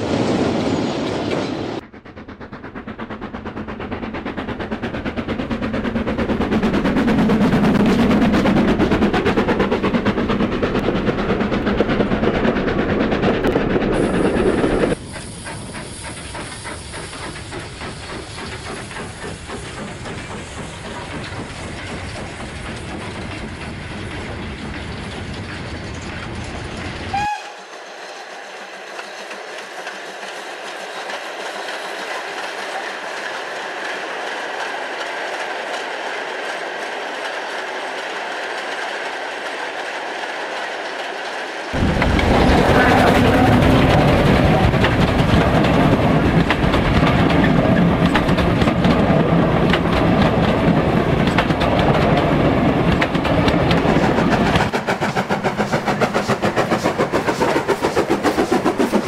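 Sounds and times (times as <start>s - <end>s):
model train wheels clattering: 7.7s - 59.0s.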